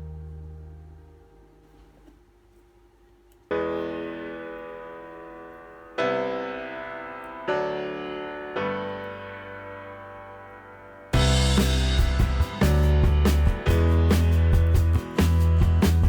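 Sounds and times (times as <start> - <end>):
piano chords ringing: 0.0 - 1.7, 3.5 - 16.0.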